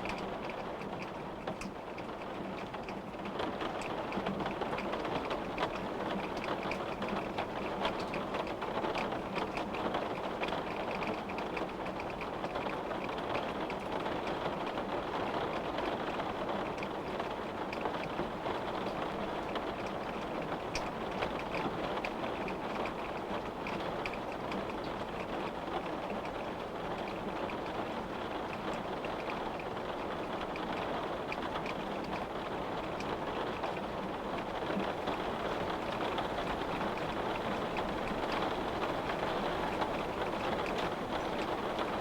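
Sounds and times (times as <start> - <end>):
rain tapping on a window: 0.0 - 42.0.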